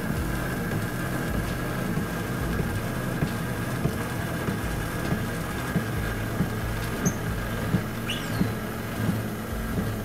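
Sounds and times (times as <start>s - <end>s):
power seat motor humming: 0.0s - 10.0s.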